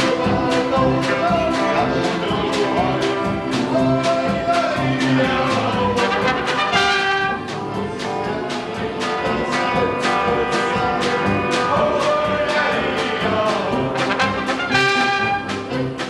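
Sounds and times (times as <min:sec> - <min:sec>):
polka band playing: 0:00.0 - 0:16.0
trumpet and trombone tune: 0:00.0 - 0:16.0.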